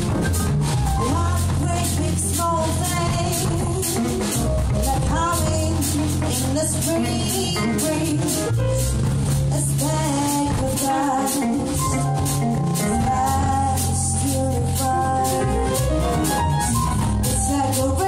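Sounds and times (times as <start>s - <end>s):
double bass: 0.0s - 18.0s
drum kit: 0.0s - 18.0s
woman singing: 1.0s - 8.6s, 9.5s - 16.4s, 17.2s - 18.0s.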